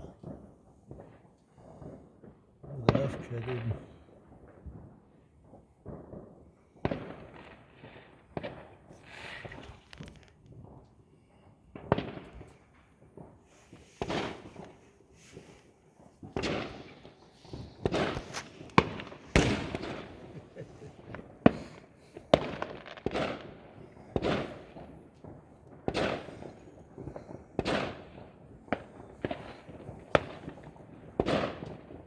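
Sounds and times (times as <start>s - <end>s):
firecrackers and fireworks banging: 0.0s - 32.0s.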